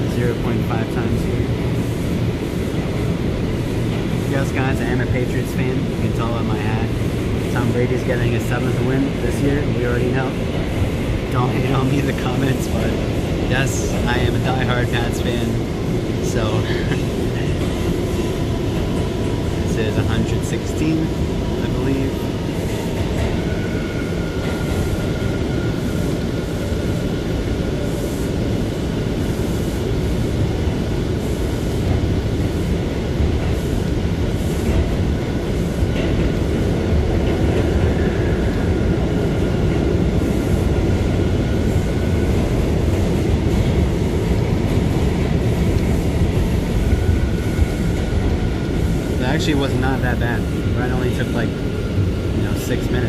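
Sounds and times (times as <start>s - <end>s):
subway car wheels rumbling: 0.0s - 53.0s.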